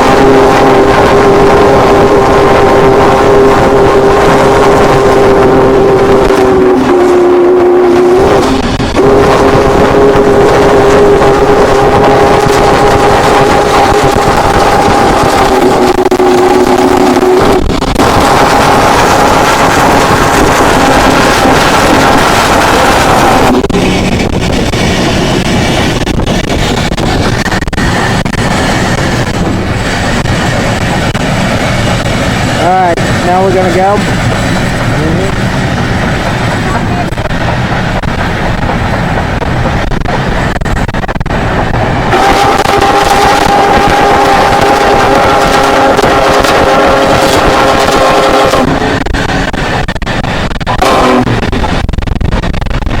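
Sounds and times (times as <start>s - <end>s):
road and wind noise: 8.2s - 53.0s.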